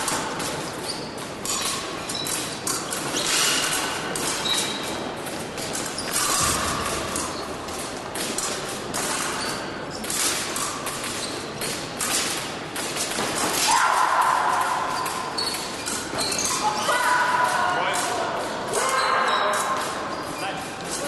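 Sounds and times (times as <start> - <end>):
fencing footwork thuds and clicks: 0.0 - 21.0
steady background noise: 0.0 - 21.0.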